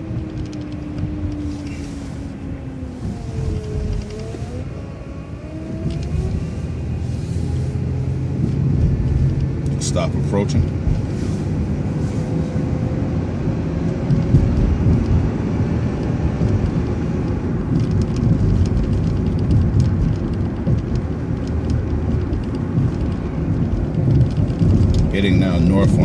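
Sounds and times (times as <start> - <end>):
bus engine and road rumble: 0.0 - 26.0.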